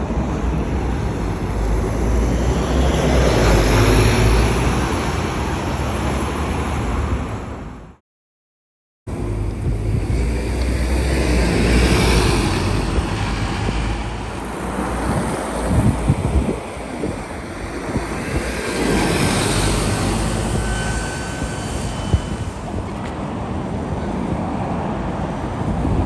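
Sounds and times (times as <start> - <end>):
buses driving past: 0.0 - 8.0, 9.1 - 25.7.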